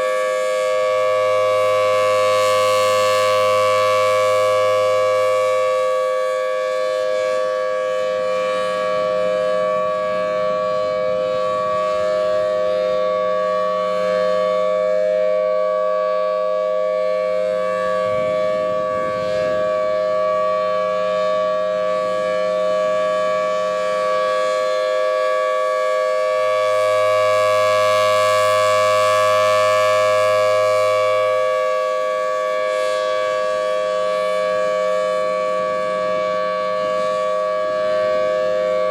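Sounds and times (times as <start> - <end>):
two-tone warning siren: 0.0 - 38.9.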